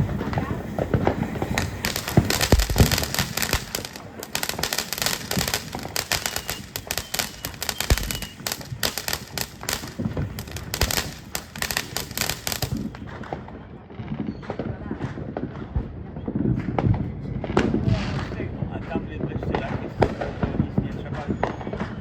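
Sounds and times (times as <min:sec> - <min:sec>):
fireworks rapid sharp cracks: 0:00.0 - 0:13.6, 0:14.4 - 0:22.0
deep fireworks booms: 0:00.0 - 0:22.0.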